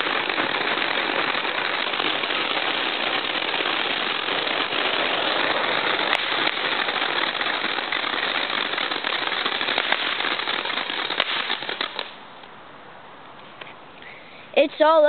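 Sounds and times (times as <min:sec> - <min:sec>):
sharp firework pop: 0:00.0 - 0:12.2
fireworks crackling: 0:00.0 - 0:12.4.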